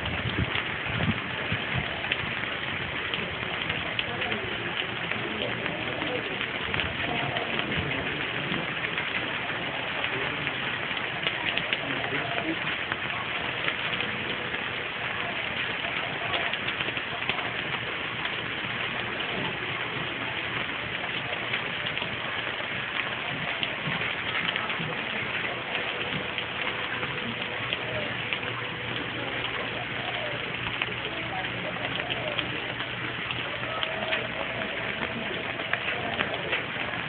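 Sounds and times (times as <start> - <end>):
rain falling on asphalt: 0.0 - 37.0.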